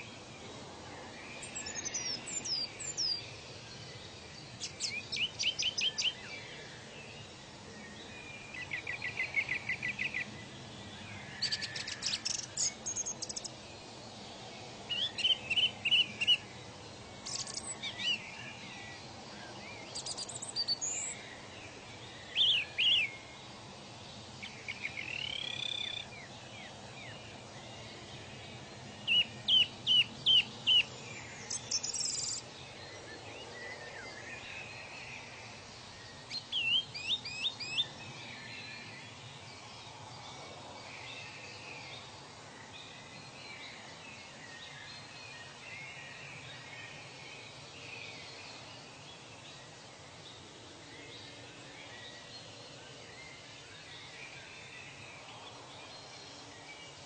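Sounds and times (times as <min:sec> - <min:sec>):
birds chirping: 0:00.0 - 0:50.5
outdoor ambience hiss: 0:00.0 - 0:57.0.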